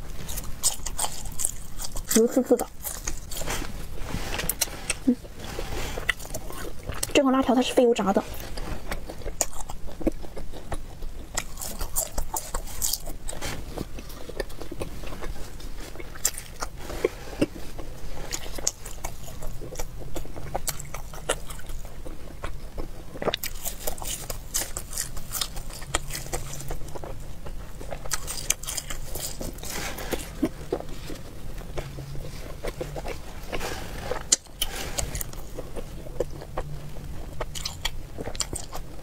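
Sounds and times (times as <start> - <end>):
chewing and biting snack: 0.0 - 39.0.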